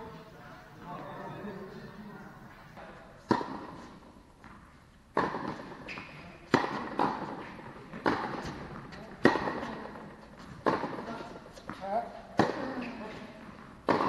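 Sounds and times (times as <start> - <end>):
racket hitting tennis ball: 2.5 - 14.0
tennis ball bouncing: 2.5 - 14.0.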